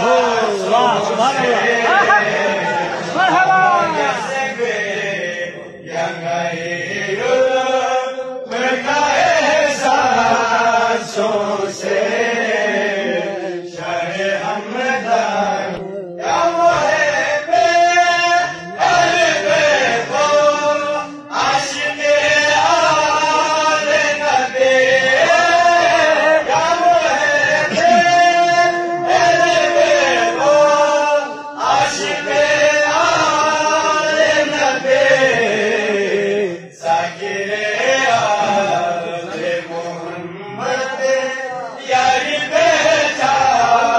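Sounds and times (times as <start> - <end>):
men singing chant-like melody: 0.0 - 43.9.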